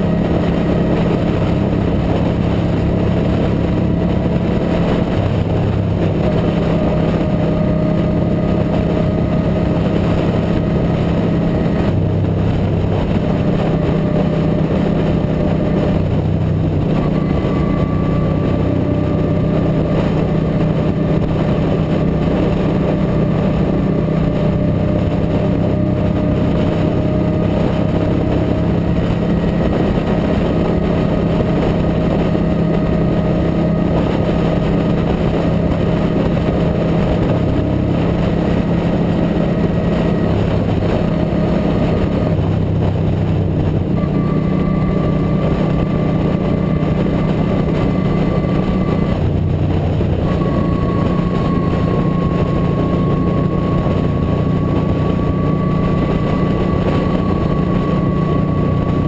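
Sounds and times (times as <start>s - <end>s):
motorcycle engine cruising: 0.0s - 59.0s
road noise: 0.0s - 59.0s
wind noise: 0.0s - 59.0s.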